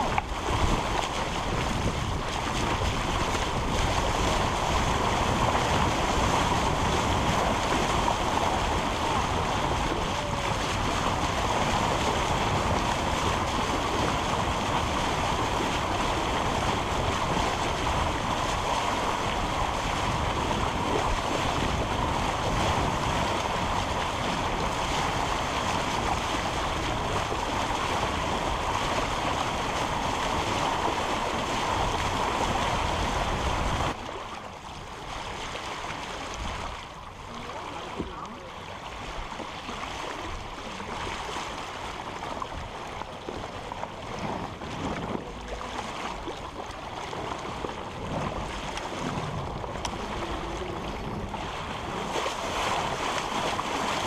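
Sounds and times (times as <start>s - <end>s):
wind buffeting microphone: 0.0s - 34.1s, 38.8s - 54.0s
rush of wind and waves: 0.0s - 54.0s.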